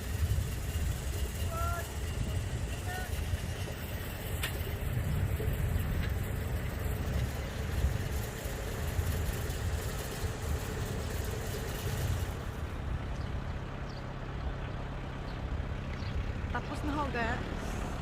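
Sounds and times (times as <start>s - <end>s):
tractor engine rumbling: 0.0s - 18.0s.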